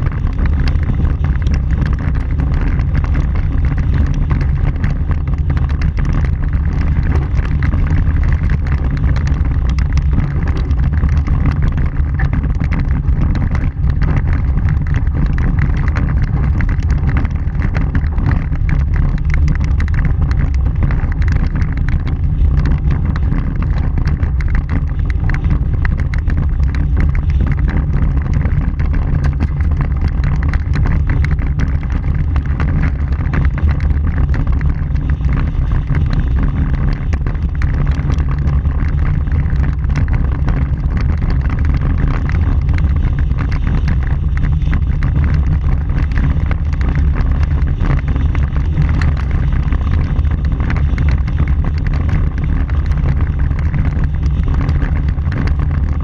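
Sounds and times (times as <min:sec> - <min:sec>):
gravel clicks and knocks: 0:00.0 - 0:56.0
tyres rumbling on gravel: 0:00.0 - 0:56.0
wind buffeting microphone: 0:00.0 - 0:56.0.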